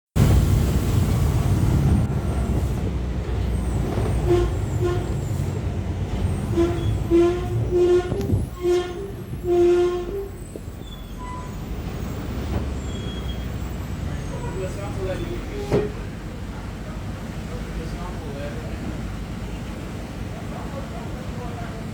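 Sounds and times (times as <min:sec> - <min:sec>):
diesel bus engine rumbling: 0:00.2 - 0:21.9.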